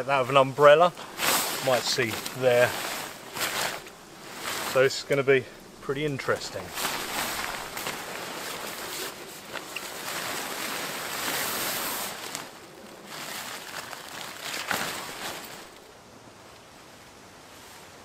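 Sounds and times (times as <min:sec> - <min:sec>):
tent fabric rustling and crinkling: 0:00.0 - 0:18.0.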